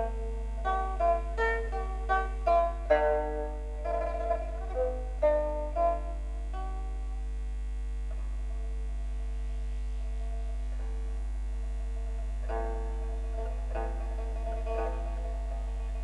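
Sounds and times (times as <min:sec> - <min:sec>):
slow background music: 0:00.0 - 0:07.4, 0:08.3 - 0:16.0
steady low hum: 0:00.0 - 0:16.0.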